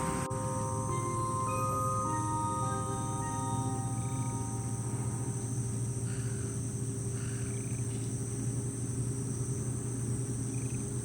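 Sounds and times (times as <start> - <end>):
low hum: 0.0 - 10.4
crickets chirping: 0.0 - 11.0.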